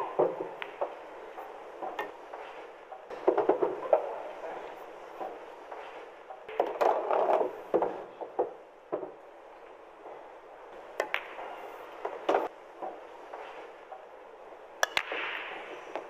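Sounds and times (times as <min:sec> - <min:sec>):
pool balls clicking: 0:00.0 - 0:16.0.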